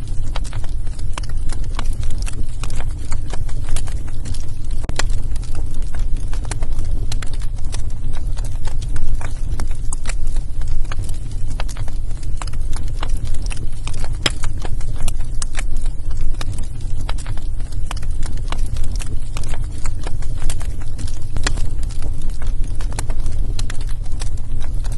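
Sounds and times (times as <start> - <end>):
low rumble of flames: 0.0 - 24.9
wood fire crackling and popping: 0.0 - 24.9.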